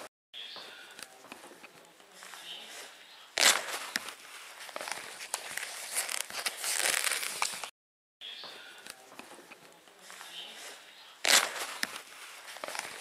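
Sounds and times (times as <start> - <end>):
rustling and crackling: 1.0 - 7.7, 8.9 - 13.0.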